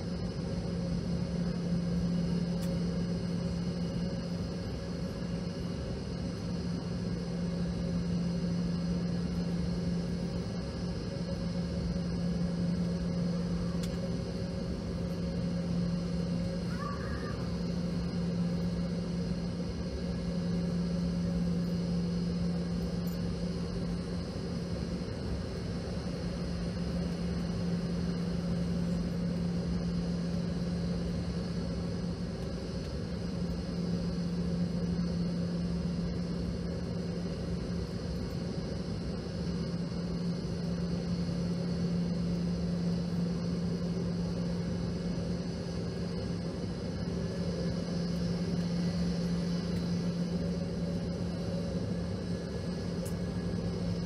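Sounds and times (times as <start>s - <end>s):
aircraft cabin engine hum: 0.0s - 54.0s.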